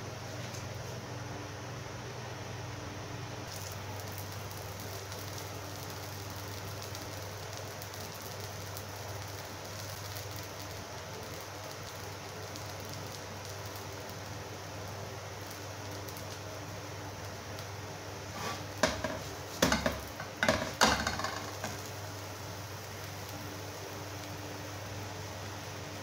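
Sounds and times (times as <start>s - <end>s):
steady low hum: 0.0s - 26.0s
batter sizzling in frying pan: 3.3s - 26.0s.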